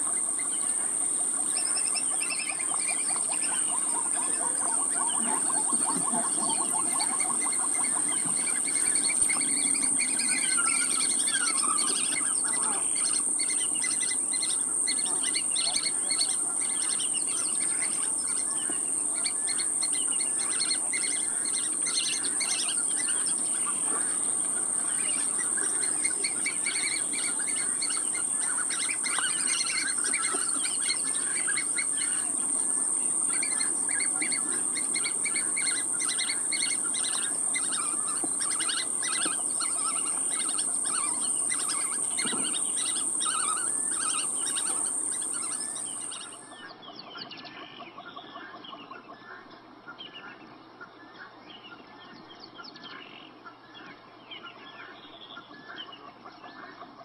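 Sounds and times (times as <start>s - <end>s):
high-pitched whine: 0.0s - 46.5s
birds chirping: 0.0s - 47.6s.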